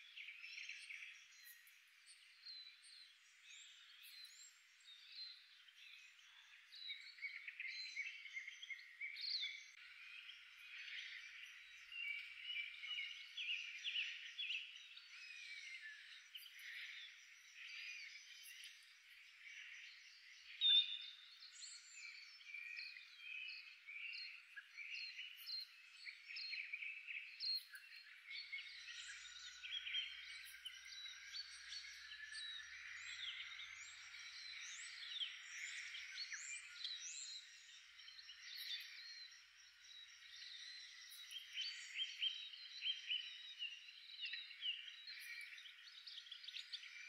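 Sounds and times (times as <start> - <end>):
songbirds chirping and twittering: 0.0 - 47.0.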